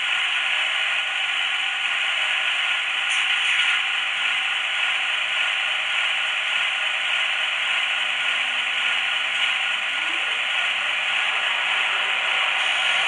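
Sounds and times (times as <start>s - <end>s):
model locomotive running noise: 0.0s - 13.0s.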